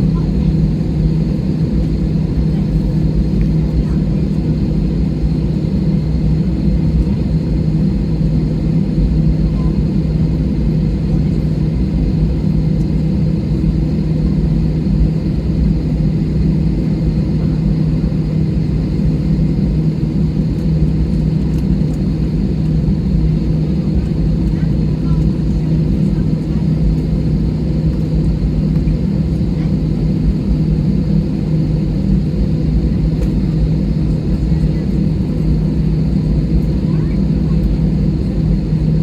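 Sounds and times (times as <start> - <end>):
jet engines running inside cabin: 0.0 - 39.0.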